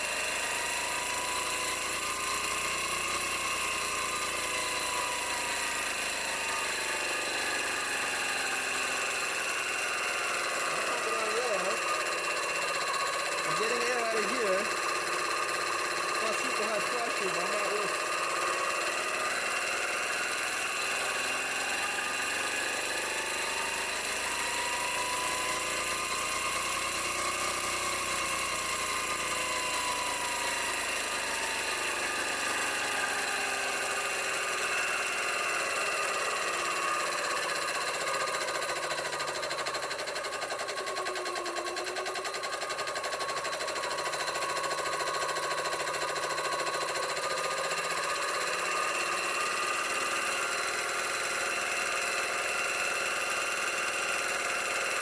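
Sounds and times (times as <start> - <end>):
air compressor whining: 0.0 - 55.0.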